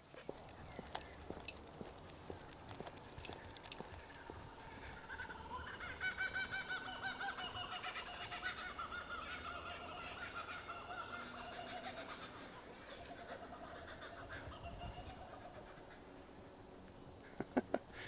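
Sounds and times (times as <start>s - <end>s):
kookaburras calling: 0.3s - 18.0s.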